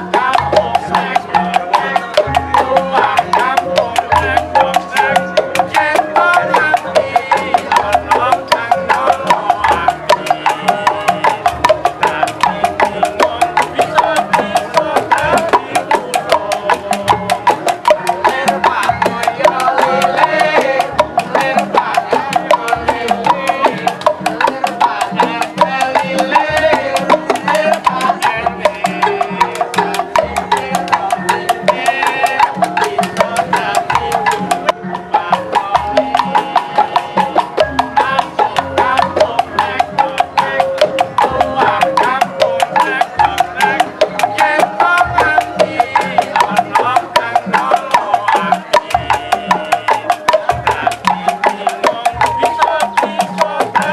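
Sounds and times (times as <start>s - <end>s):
music with busy percussion: 0.0s - 53.9s.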